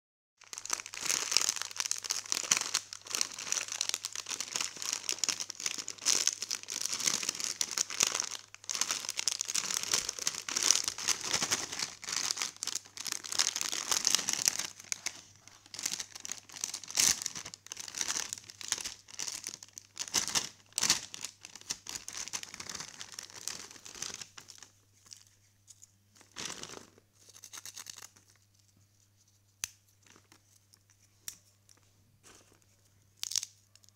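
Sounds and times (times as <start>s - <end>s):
snack packet crinkling: 0.4s - 25.2s, 26.2s - 28.5s, 33.2s - 33.9s
rustles and clicks of snack sticks: 0.4s - 33.9s.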